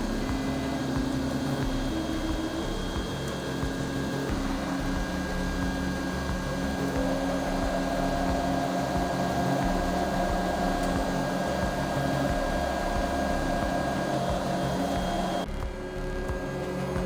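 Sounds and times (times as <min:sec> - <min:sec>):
fans whirring: 0:00.0 - 0:17.0
low hum: 0:00.0 - 0:17.0
stepper motors whining: 0:00.0 - 0:17.0.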